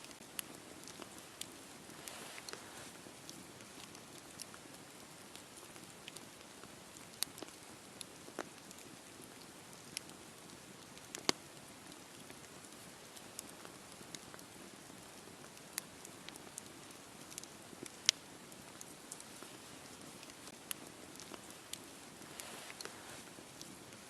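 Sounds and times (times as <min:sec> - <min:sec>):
campfire hissing: 0:00.0 - 0:24.0
fire crackles and pops: 0:00.0 - 0:24.0.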